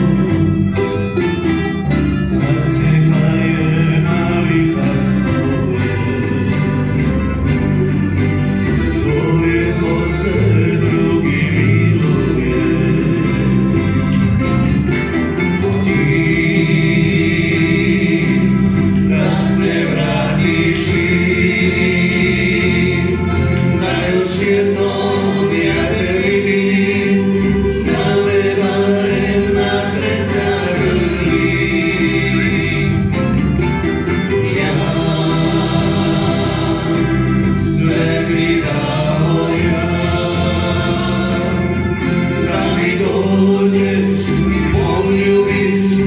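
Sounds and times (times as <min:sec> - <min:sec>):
voices singing together: 0:00.0 - 0:00.9, 0:01.5 - 0:46.0
accordion: 0:00.0 - 0:46.0
double bass: 0:00.0 - 0:46.0
strummed string instruments: 0:00.0 - 0:46.0.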